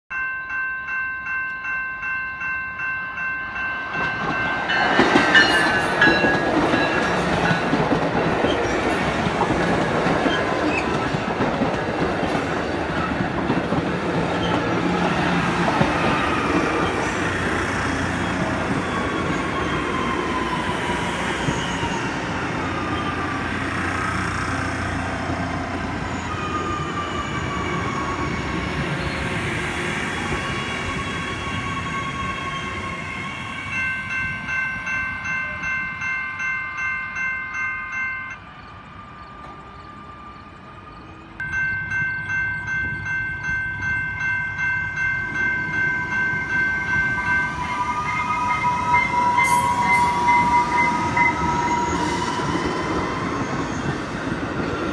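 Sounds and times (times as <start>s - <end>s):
level-crossing warning bell: 0.1s - 54.0s
train wheels rushing on rail: 3.4s - 36.0s, 38.9s - 54.9s.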